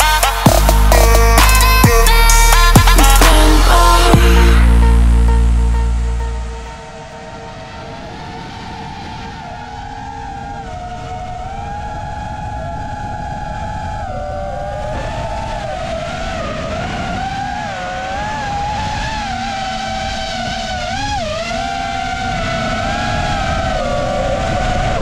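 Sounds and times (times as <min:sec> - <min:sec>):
drone propellers whining: 0:00.0 - 0:25.0.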